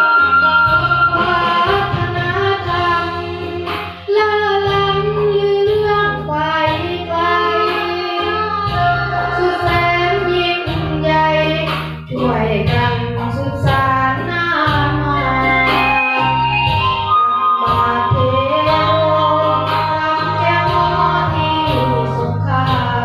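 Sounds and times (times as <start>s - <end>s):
boy singing into microphone: 0.0s - 17.0s, 17.6s - 23.0s
instrumental backing track: 0.0s - 23.0s.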